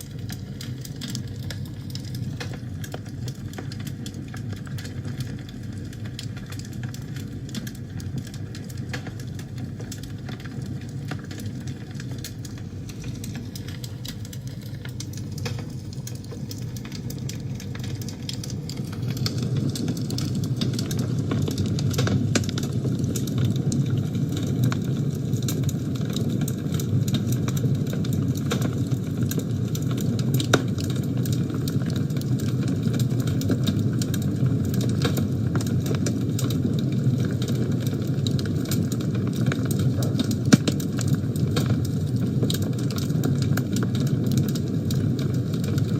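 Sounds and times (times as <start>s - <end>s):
fire crackling and popping: 0.0s - 45.9s
low rumble of flame: 0.0s - 45.9s.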